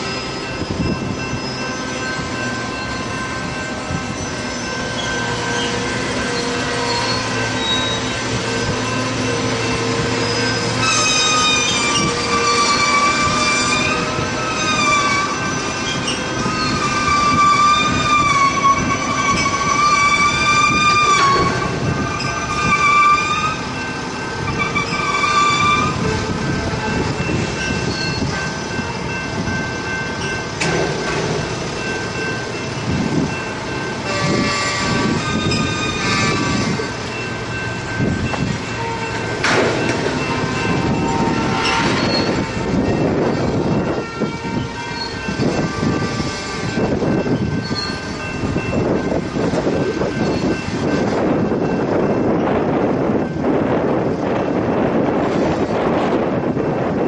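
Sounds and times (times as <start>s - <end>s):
steel wheels squealing: 0.0s - 53.7s
rumble of rail cars: 0.0s - 57.0s.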